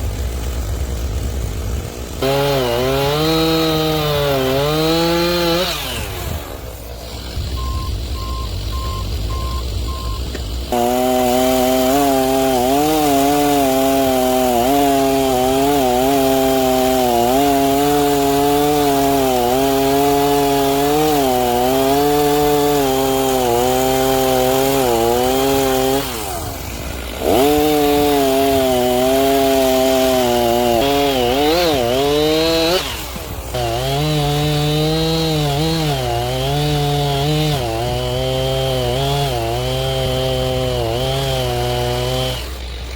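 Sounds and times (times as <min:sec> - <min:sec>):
chainsaw cutting log: 0:00.0 - 0:42.9.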